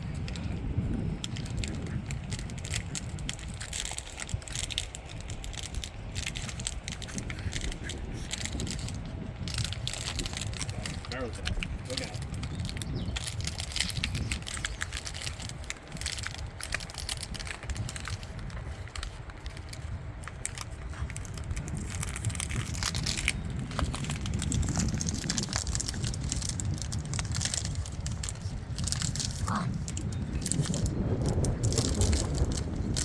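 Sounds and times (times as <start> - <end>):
puppies chewing crackling plastic: 0.0 - 33.0.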